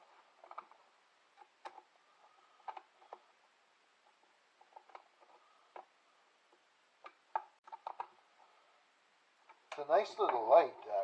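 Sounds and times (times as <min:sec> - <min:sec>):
faint clicks and taps: 0:00.0 - 0:08.5, 0:09.4 - 0:10.5.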